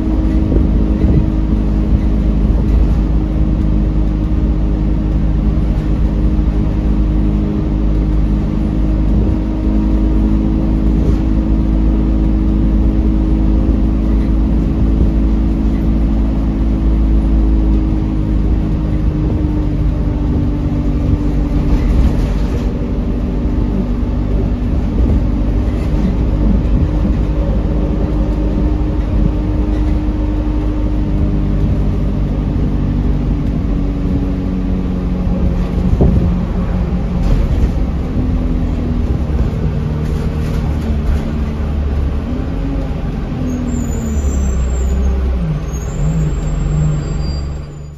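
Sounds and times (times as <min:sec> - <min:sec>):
bus engine running: 0:00.0 - 0:47.9.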